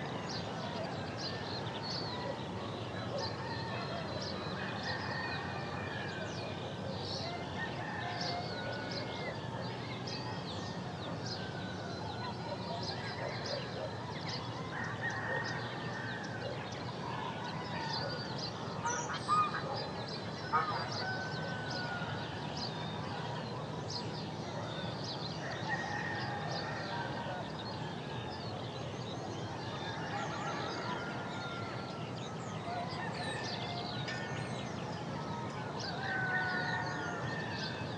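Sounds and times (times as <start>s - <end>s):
steady background hiss: 0.0s - 37.9s.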